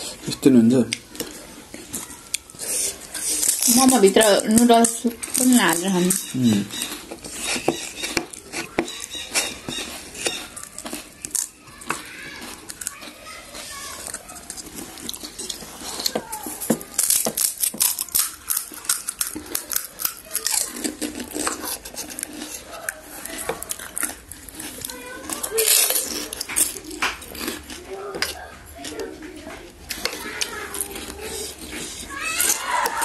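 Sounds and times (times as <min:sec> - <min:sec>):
cutlery and dishes clinking: 0:00.0 - 0:33.0
crisp shells crunching: 0:00.5 - 0:33.0.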